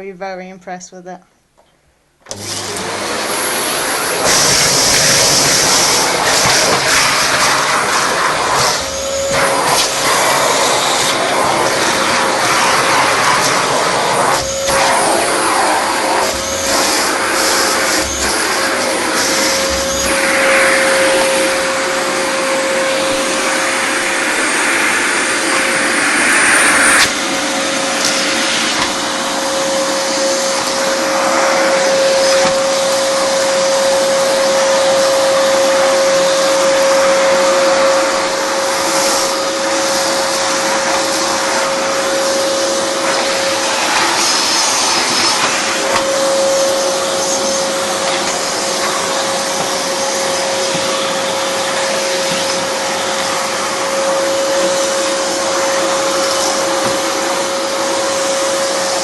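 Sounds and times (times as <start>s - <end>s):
vacuum cleaner whining: 2.2s - 59.0s.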